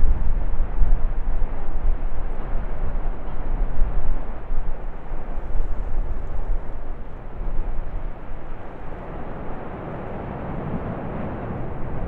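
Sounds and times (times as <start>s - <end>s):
lava fountain rushing rumble: 0.0s - 12.0s.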